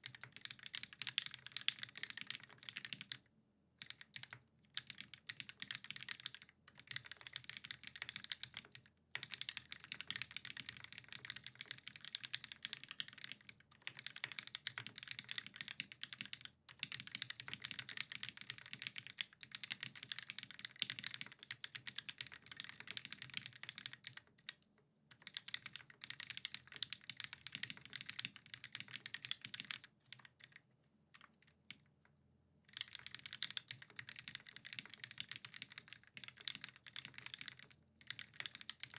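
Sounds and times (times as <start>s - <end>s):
typing on mechanical keyboard: 0.0s - 3.2s, 3.8s - 31.9s, 32.7s - 38.9s.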